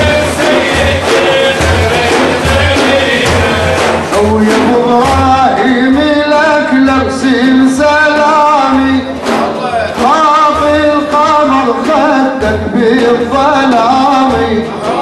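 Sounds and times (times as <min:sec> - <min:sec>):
men singing a hymn: 0:00.0 - 0:15.0
steady drum beat: 0:00.0 - 0:15.0.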